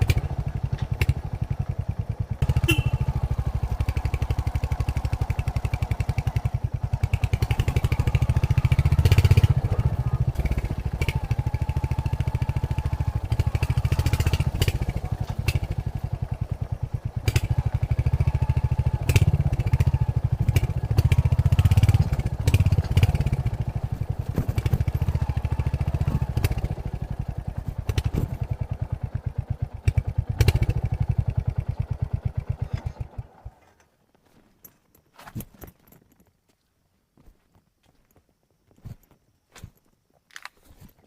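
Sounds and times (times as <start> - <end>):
motorcycle engine running: 0.0 - 33.8.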